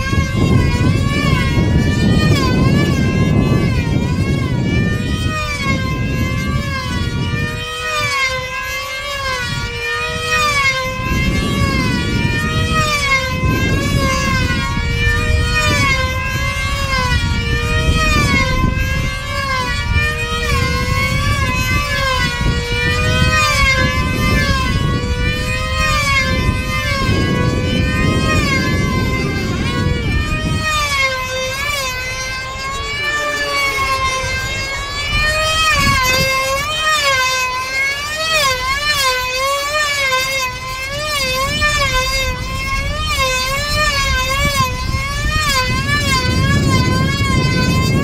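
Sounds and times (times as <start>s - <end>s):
model plane engine whining: 0.0s - 48.0s.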